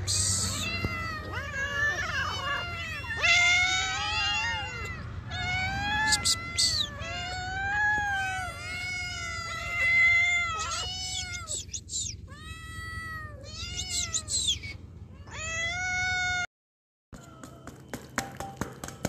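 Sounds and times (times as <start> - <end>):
cats meowing: 0.0 - 16.5.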